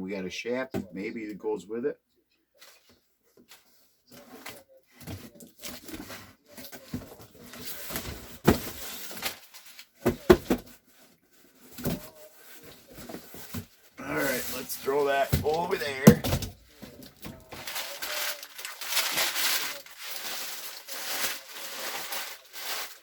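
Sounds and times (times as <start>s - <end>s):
packing paper rustling: 4.2s - 23.0s.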